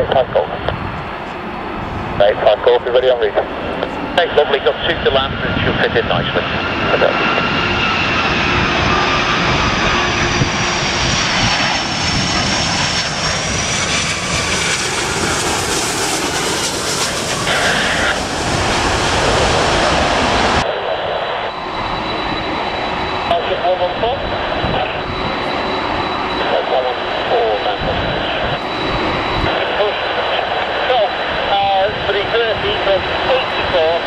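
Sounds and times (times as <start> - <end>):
distant jet plane whine: 0.0 - 34.0
jet plane passing low overhead: 0.0 - 34.0.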